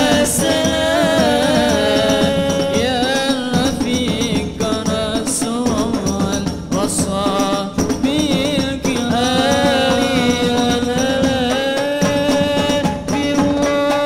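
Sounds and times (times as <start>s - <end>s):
hand drum ensemble: 0.0s - 14.0s
man singing devotional song: 0.0s - 14.0s.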